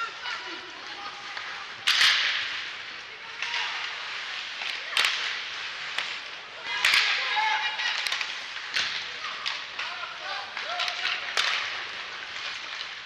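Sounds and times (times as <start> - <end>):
clacks of sticks and puck: 0.0 - 13.0
ice skates scraping and stopping: 0.0 - 13.0.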